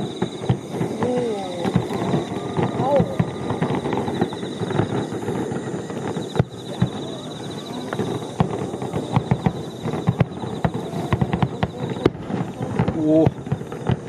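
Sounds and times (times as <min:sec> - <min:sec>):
big firework bang: 0:00.0 - 0:14.0
fireworks crackling pops: 0:00.0 - 0:14.0.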